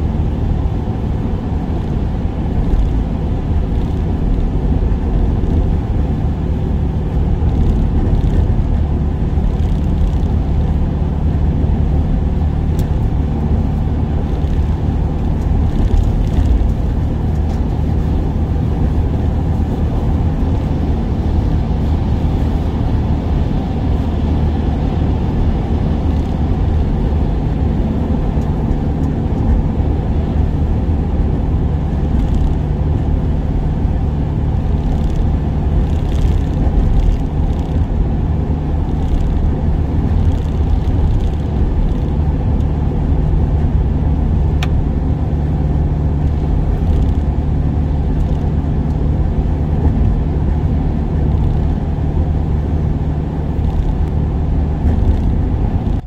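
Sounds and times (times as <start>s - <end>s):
van engine running: 0.0s - 56.0s.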